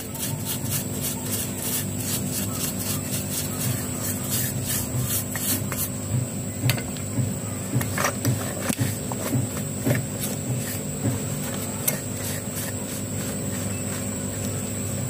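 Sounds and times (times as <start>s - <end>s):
paintbrush scraping grime off metal: 0.0s - 6.0s, 7.9s - 15.0s.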